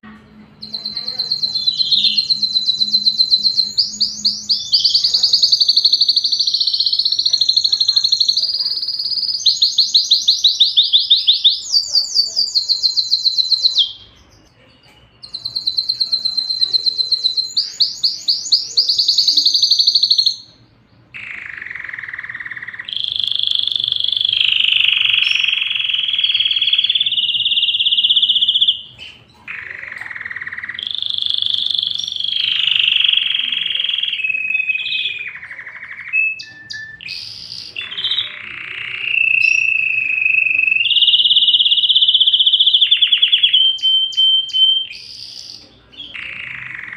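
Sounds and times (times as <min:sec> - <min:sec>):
canary singing: 0:00.0 - 0:46.9.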